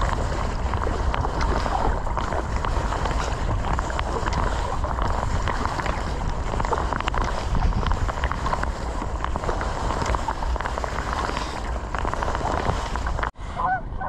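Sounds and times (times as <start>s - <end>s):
paddle strokes splashing water: 0.0s - 13.8s
wind rumbling on microphone: 0.0s - 14.0s.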